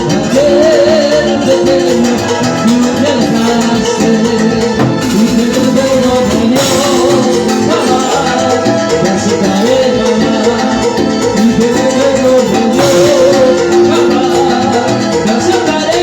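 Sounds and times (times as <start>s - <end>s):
latin dance music by band: 0.0s - 16.0s.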